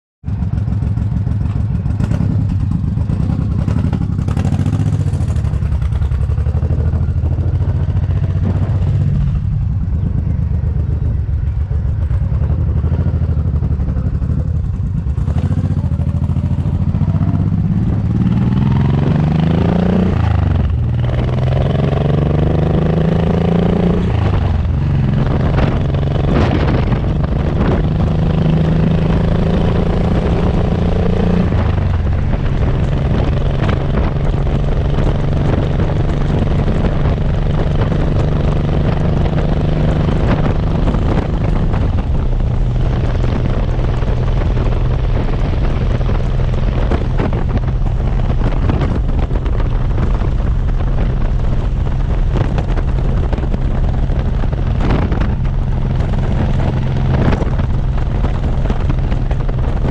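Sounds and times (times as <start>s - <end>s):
motorcycle engine idling and revving: 0.2s - 59.9s.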